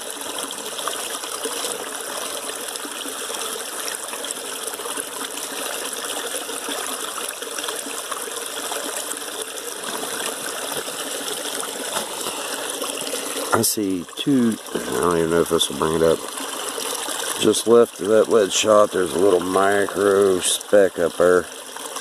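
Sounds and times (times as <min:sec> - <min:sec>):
creek water trickling over stones: 0:00.0 - 0:22.0.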